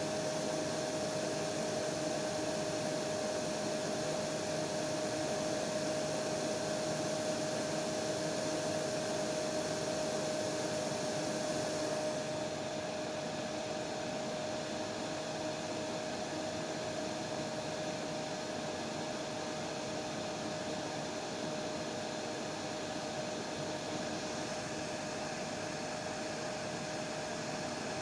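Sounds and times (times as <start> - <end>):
hair dryer running: 0.0 - 28.0.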